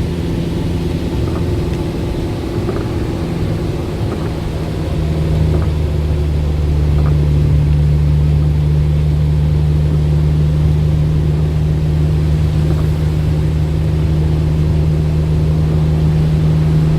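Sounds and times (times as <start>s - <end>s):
low droning hum: 0.0s - 16.9s.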